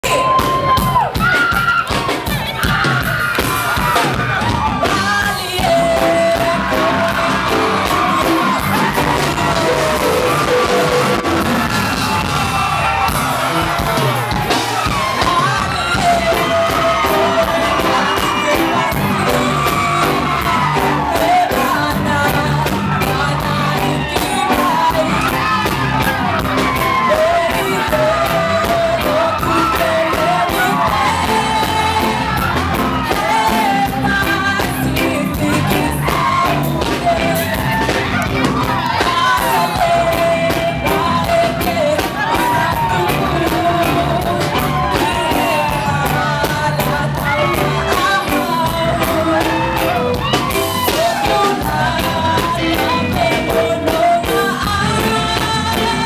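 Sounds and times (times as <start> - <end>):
crowd yelling and cheering: 0.0 - 56.0
live band playing pop song: 0.0 - 56.0
woman singing: 4.8 - 11.0, 14.8 - 56.0.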